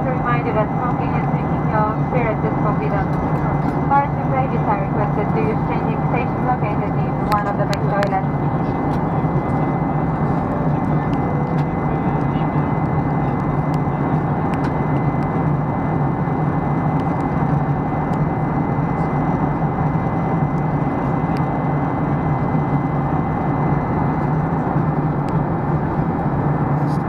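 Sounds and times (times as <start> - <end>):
airplane cabin drone: 0.0 - 27.0.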